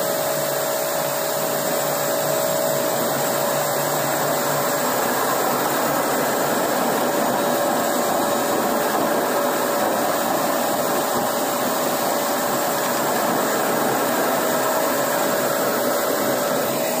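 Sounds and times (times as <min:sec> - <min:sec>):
floor grinder running: 0:00.0 - 0:17.0
vacuum running: 0:00.0 - 0:17.0.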